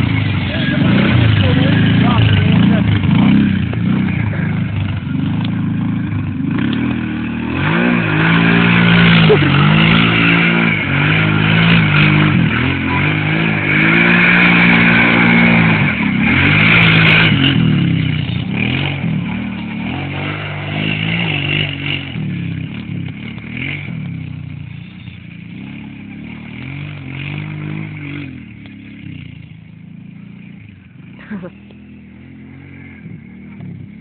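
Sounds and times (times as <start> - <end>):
quad engine revving: 0.0 - 34.0.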